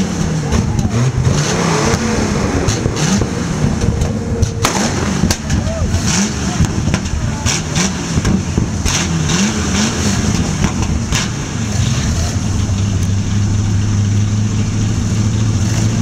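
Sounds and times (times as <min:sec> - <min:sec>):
engine idling: 0:00.0 - 0:16.0
exhaust pops: 0:00.0 - 0:16.0
pickup engine revving: 0:00.0 - 0:16.0.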